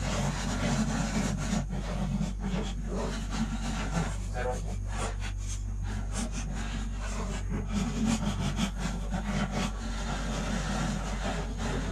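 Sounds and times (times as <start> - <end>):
hand scrapers rasping: 0.0 - 11.9
steady low hum: 0.0 - 11.9.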